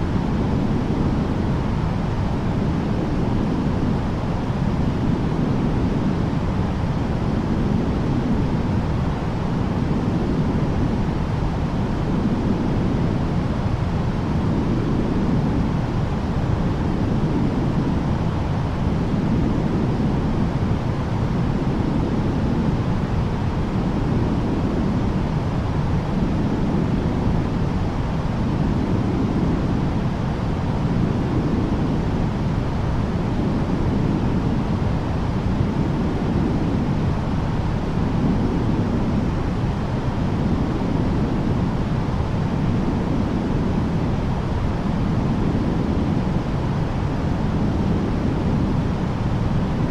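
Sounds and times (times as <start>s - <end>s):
muffled low rumble of noise: 0.0s - 49.9s.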